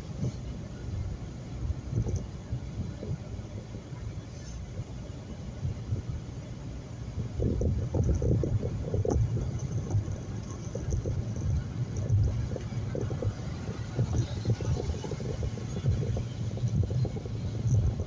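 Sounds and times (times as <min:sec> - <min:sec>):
car road noise rumble: 0:00.0 - 0:18.0.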